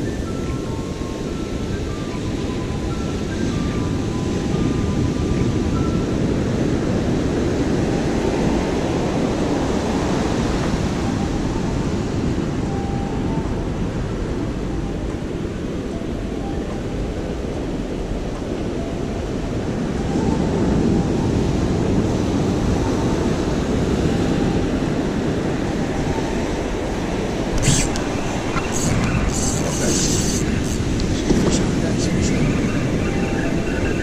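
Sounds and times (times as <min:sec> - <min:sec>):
ocean surf breaking: 0:00.0 - 0:34.0
wind rumble on microphone: 0:00.0 - 0:34.0.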